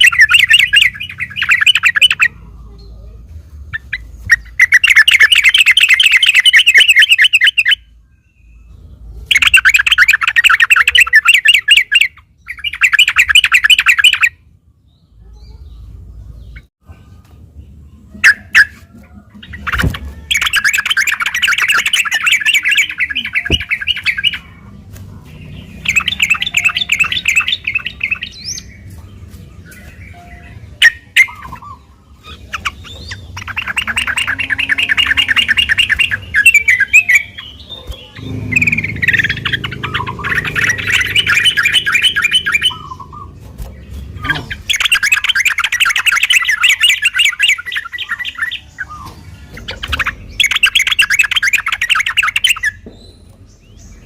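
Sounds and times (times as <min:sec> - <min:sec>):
bulbul chattering trilled song: 0:00.0 - 0:08.0, 0:08.7 - 0:14.5, 0:18.1 - 0:52.9.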